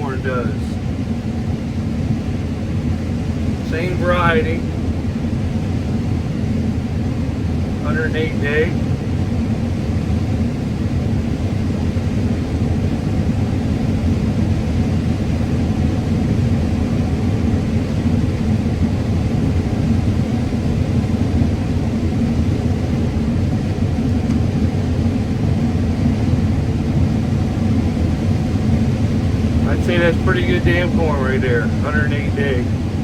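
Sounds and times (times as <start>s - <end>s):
combine harvester low drone: 0.0s - 33.0s.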